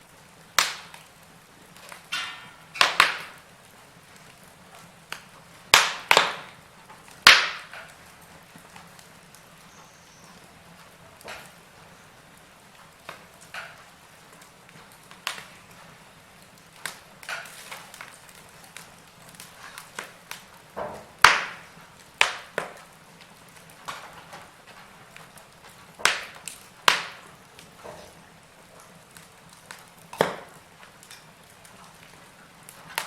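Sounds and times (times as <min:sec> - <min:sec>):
fire hiss: 0:00.0 - 0:33.0
wood fire crackling and popping: 0:00.0 - 0:33.0.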